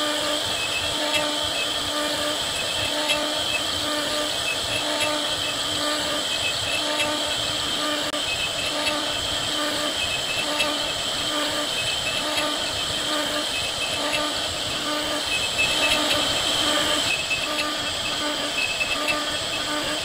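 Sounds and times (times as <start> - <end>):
bit cutting wood: 0.0 - 20.0
router spindle whining: 0.0 - 20.0.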